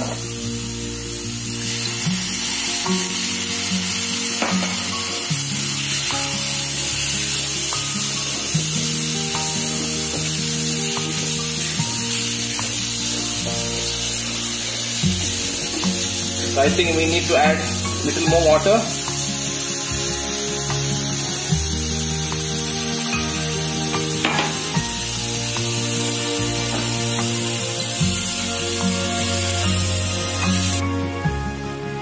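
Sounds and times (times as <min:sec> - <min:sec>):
water pouring into pan: 0:00.0 - 0:30.9
background music: 0:00.0 - 0:32.0
food sizzling in a frying pan: 0:00.0 - 0:32.0.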